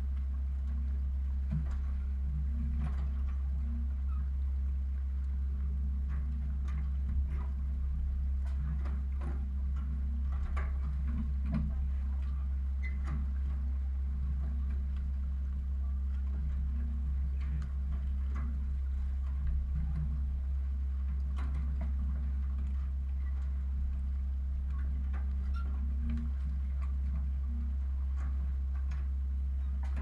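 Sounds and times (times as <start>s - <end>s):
steady low hum: 0.0s - 30.0s
light clicks and knocks: 5.0s - 30.0s.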